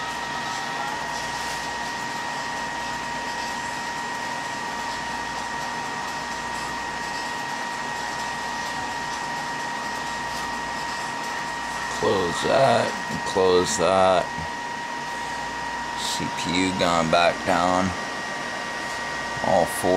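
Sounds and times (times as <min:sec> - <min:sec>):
computer fans rushing air: 0:00.0 - 0:19.9
high-pitched fan whine: 0:00.0 - 0:19.9.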